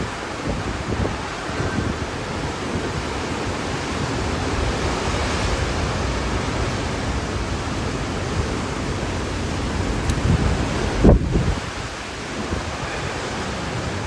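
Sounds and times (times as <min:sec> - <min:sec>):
hurricane wind blowing: 0:00.0 - 0:14.0
wind buffeting microphone: 0:00.0 - 0:14.0.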